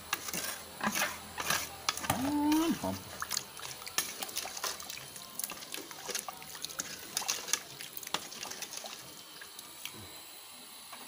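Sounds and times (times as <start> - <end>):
ladle stirring liquid in pot: 0.0 - 9.7.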